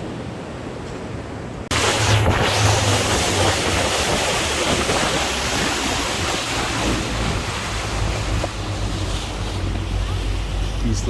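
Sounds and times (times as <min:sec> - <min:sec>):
wind buffeting microphone: 0:01.2 - 0:11.0
water rushing past: 0:01.6 - 0:11.0
boat engine droning: 0:01.7 - 0:11.0.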